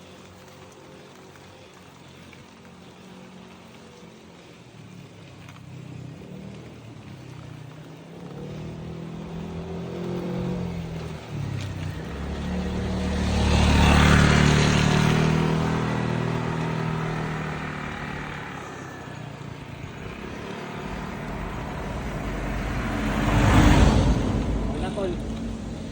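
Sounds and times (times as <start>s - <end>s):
vehicle approaching: 0.0s - 25.9s
vehicle passing: 0.2s - 25.9s.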